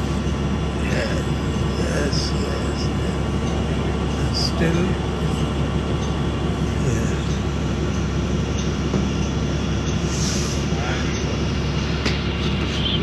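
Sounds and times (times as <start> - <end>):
transit vehicle rumble and hum: 0.0 - 13.0.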